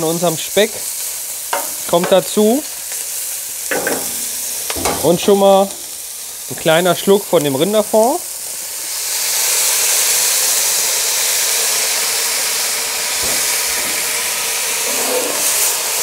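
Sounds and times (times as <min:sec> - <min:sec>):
liquid sizzling in hot pot: 0:00.0 - 0:16.0.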